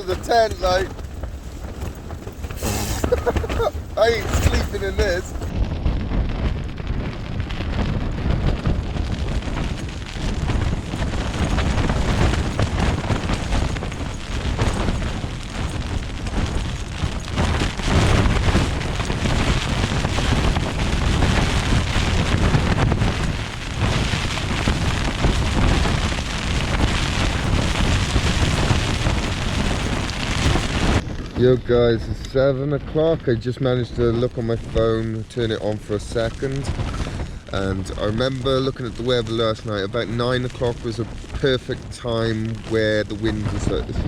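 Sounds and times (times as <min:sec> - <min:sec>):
wind gusts buffeting tent: 0:00.0 - 0:44.0.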